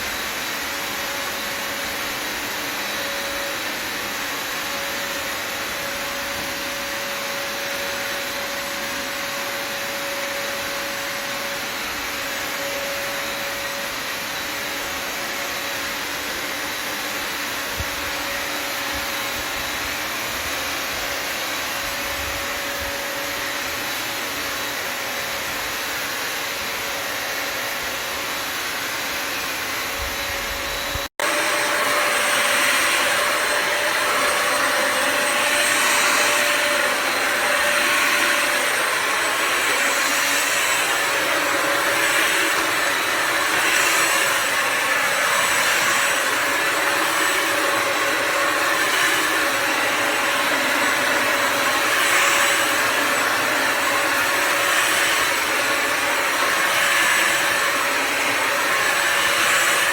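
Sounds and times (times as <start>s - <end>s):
vacuum motor whining: 0.0s - 59.9s.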